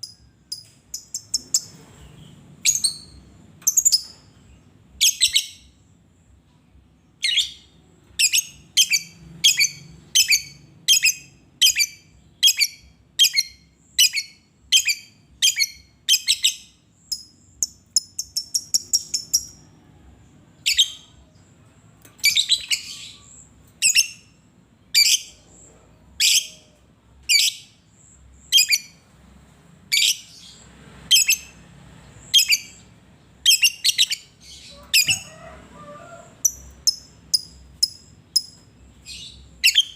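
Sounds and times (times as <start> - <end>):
lovebird chirping: 0.0 - 5.9, 7.2 - 19.8, 22.0 - 29.0, 29.9 - 39.9.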